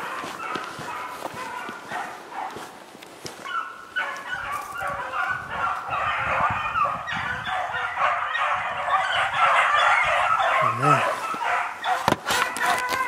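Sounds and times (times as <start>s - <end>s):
hounds baying: 0.0s - 13.0s.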